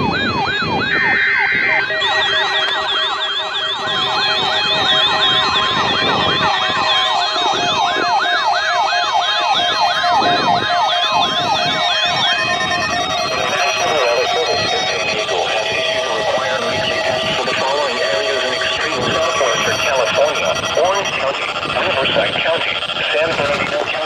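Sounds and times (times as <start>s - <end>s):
beeping tones: 0.0s - 24.0s
warbling alarm sirens: 0.0s - 24.0s.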